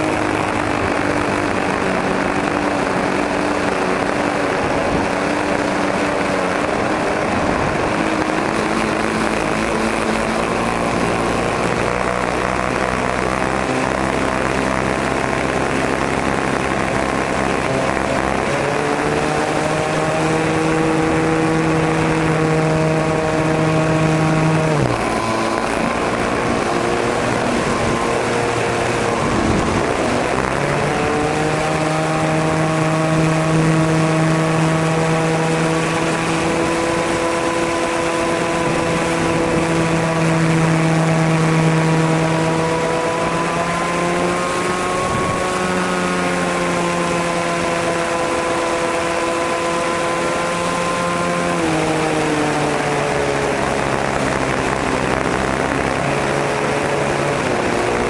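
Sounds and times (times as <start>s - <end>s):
airflow noise: 0.0s - 58.0s
model airplane engine and propeller: 0.0s - 58.0s.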